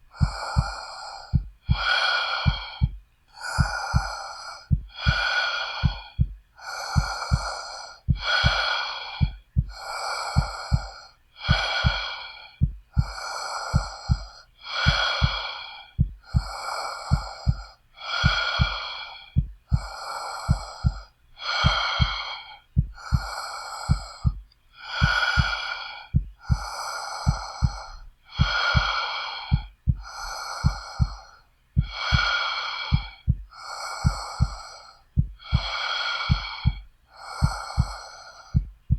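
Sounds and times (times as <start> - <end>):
heartbeat thumps: 0.0 - 38.9
heavy quick breathing: 0.0 - 38.9.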